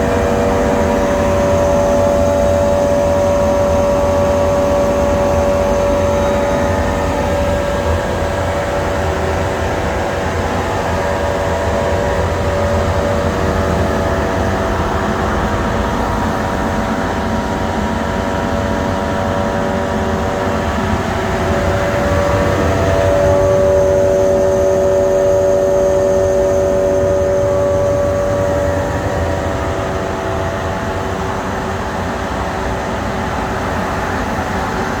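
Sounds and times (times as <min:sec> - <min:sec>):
dust collector running: 0:00.0 - 0:35.0.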